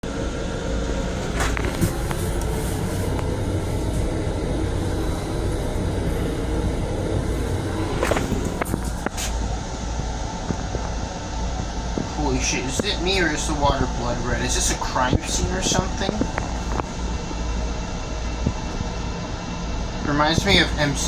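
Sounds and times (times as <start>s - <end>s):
railcar rumble and hum: 0.0s - 21.0s.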